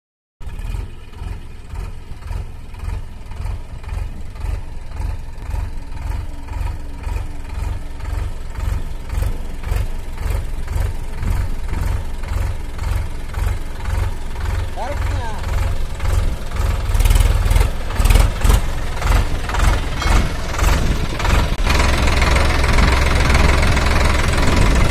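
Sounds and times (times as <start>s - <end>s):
tractor diesel engine running: 0.4s - 24.9s.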